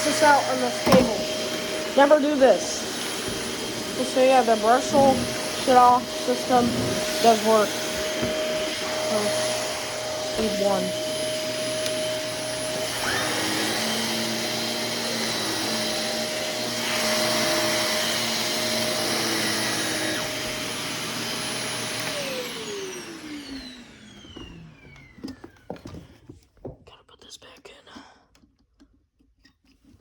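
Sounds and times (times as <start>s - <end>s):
vacuum cleaner motor whining: 0.0s - 26.4s.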